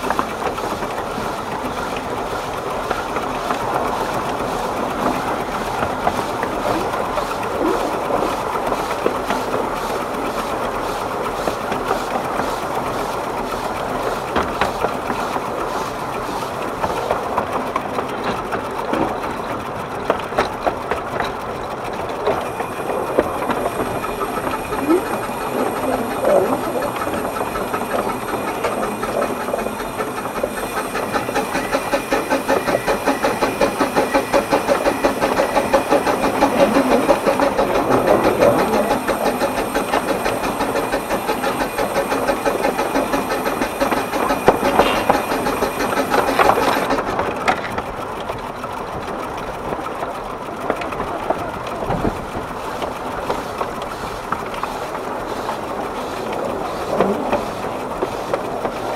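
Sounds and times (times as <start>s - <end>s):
steam locomotive chuffing: 0.0s - 58.9s.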